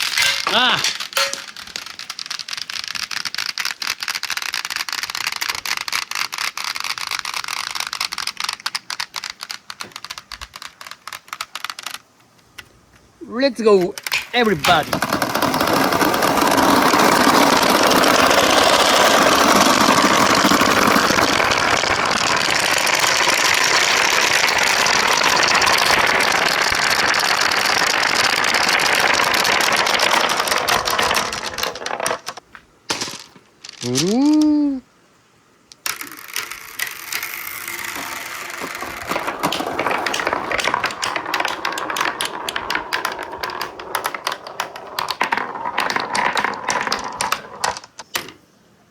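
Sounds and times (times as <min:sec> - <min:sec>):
marbles rolling down steel ramps: 0:00.0 - 0:12.6, 0:13.6 - 0:34.4, 0:35.7 - 0:48.4.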